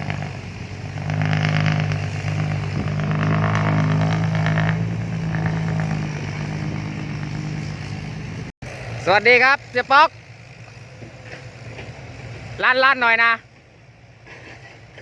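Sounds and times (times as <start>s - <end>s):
diesel engine pulling under load: 0.0s - 15.0s.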